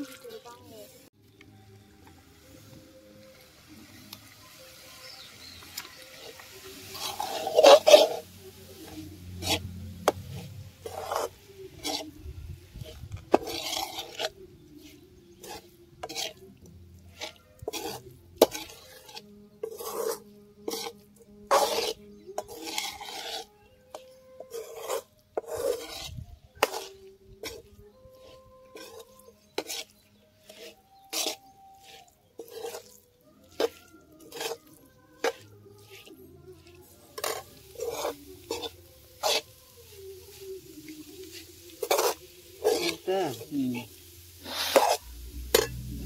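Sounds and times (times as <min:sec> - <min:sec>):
metal ladle scraping a pot: 0:04.0 - 0:46.0.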